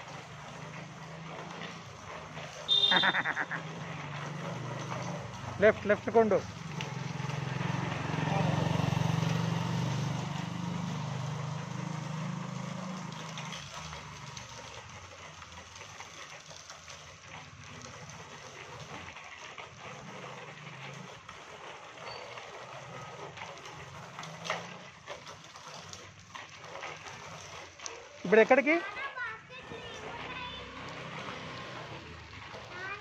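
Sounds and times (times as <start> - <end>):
motorcycle engine running: 0.0 - 33.0
outdoor street noise: 0.0 - 33.0
wind: 0.0 - 33.0.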